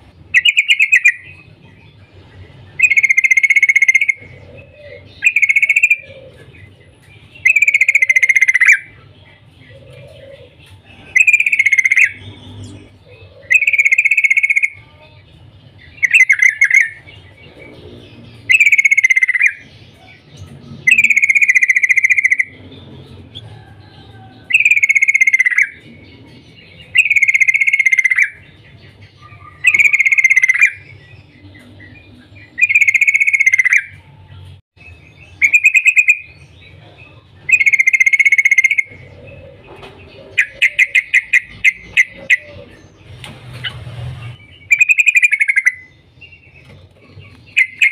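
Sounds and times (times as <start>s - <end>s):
bird singing chattering phrase: 0.2s - 34.1s, 34.8s - 47.9s.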